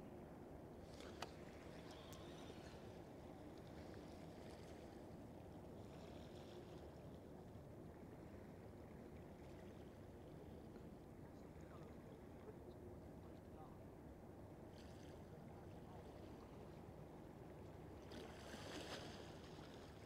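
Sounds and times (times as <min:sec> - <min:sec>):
faint low background rumble: 0:00.0 - 0:20.0.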